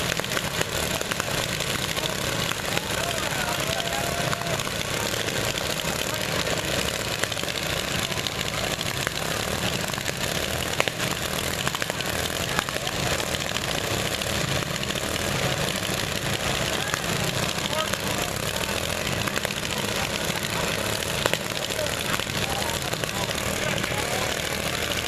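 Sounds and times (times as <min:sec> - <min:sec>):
lawn mower engines droning: 0:00.0 - 0:25.0.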